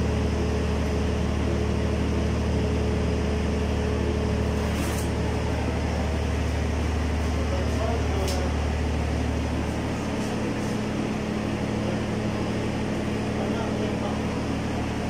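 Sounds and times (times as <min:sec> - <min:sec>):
power generator engine humming: 0:00.0 - 0:15.0.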